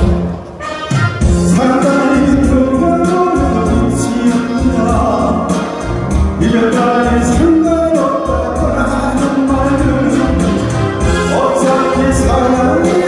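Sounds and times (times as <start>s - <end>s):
backing track with steady beat: 0.0s - 13.0s
man singing into microphone: 1.4s - 13.0s.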